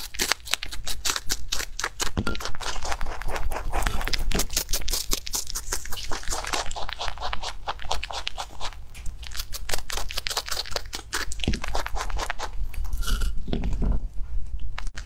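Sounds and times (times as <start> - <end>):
rabbit chewing crunches: 0.0 - 15.0.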